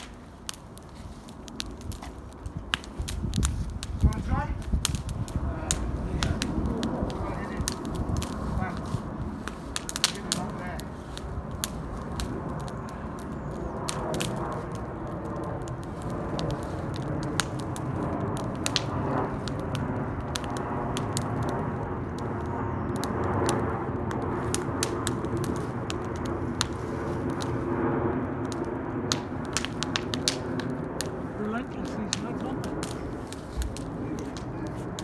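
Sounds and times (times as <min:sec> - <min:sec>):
wood crackling and snapping: 0:00.0 - 0:35.0.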